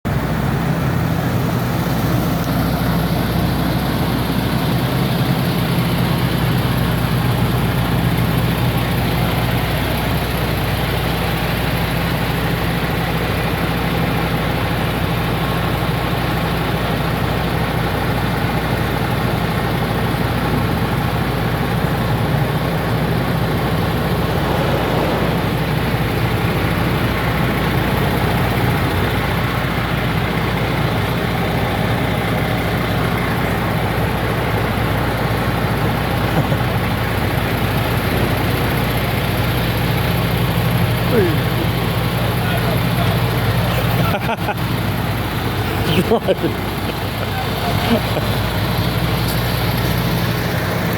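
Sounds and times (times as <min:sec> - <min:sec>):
lorry diesel engine running: 0:00.0 - 0:50.9.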